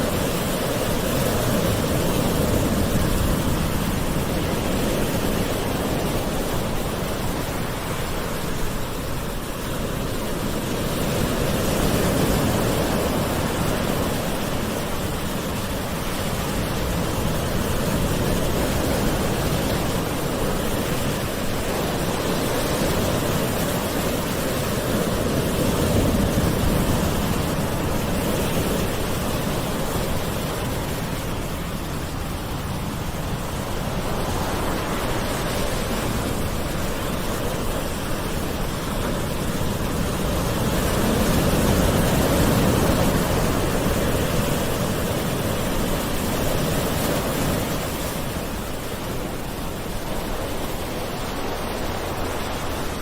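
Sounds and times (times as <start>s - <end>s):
gentle ocean waves washing in: 0.0s - 53.0s.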